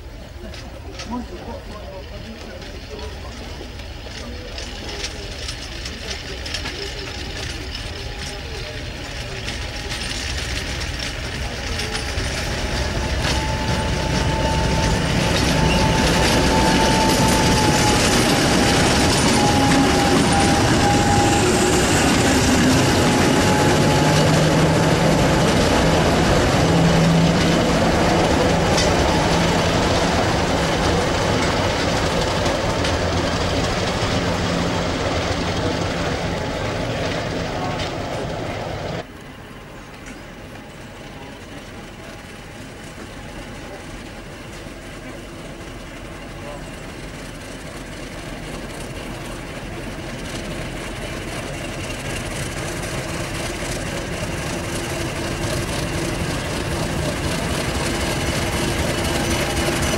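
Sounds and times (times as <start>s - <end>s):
diesel locomotive passing: 0.0s - 59.9s.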